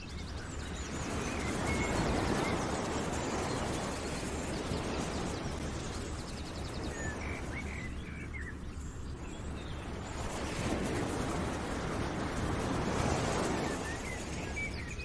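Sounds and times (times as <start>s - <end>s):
birds chirping: 0.0s - 15.0s
steady rushing noise: 0.0s - 15.0s.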